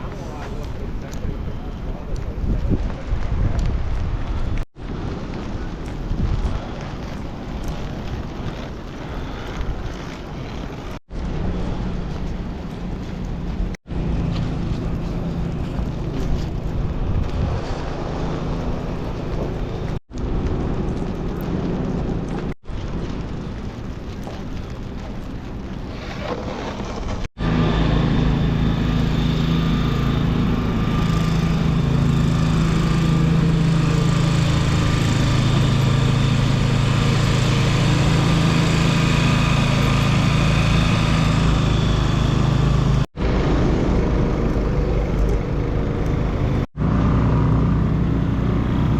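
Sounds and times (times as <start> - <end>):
low engine hum: 0.0 - 26.0, 27.0 - 48.9
city street traffic: 0.0 - 26.2, 27.0 - 48.9.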